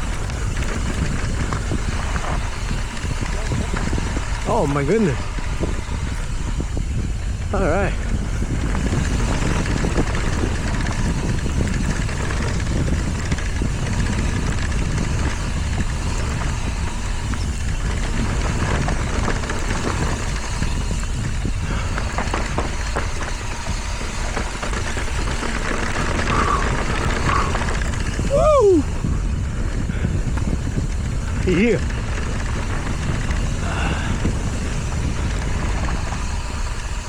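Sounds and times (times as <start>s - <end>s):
bike rattling over ground: 0.0s - 37.0s
wind rumble on microphone: 0.0s - 37.0s.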